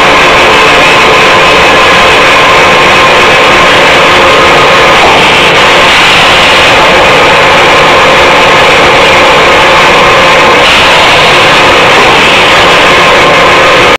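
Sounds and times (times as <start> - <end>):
industrial machinery noise: 0.0 - 13.9.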